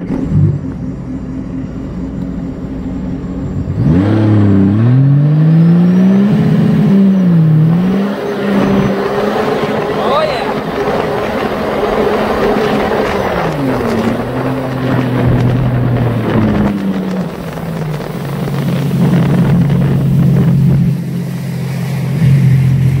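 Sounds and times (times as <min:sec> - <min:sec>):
watercraft engine running: 0:00.0 - 0:23.0
wind and water rushing: 0:03.8 - 0:23.0.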